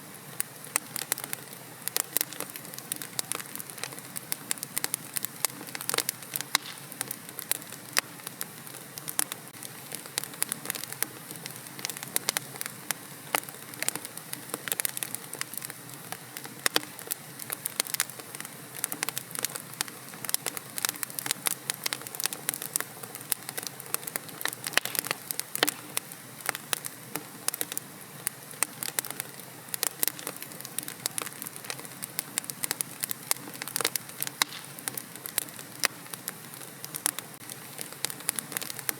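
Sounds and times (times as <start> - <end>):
soft hiss: 0.0 - 21.8, 22.7 - 38.9
fire crackling in a fireplace: 0.0 - 38.9.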